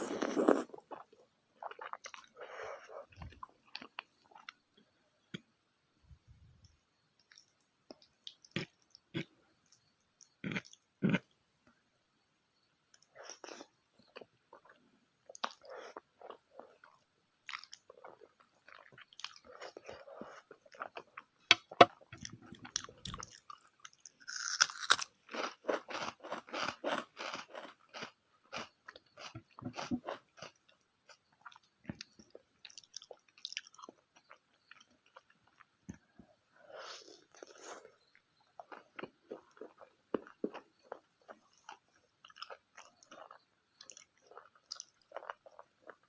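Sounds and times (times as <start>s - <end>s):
person chewing food: 0.0s - 4.6s, 13.0s - 36.1s, 36.7s - 46.0s.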